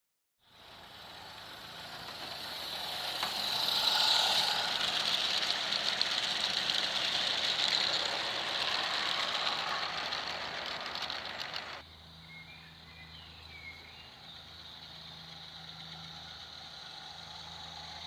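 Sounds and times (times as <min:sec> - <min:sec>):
model steam train rattling: 0:00.5 - 0:11.8, 0:14.3 - 0:18.0.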